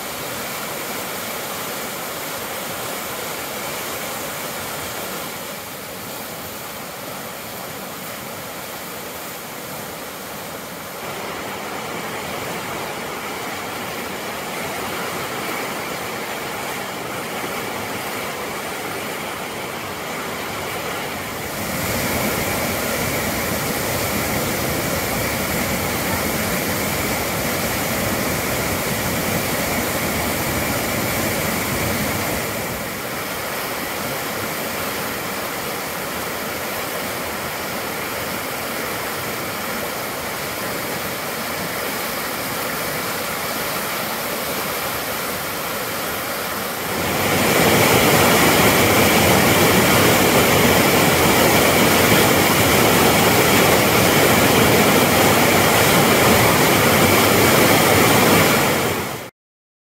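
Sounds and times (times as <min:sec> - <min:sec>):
river rushing over rapids: 0:00.0 - 0:59.3.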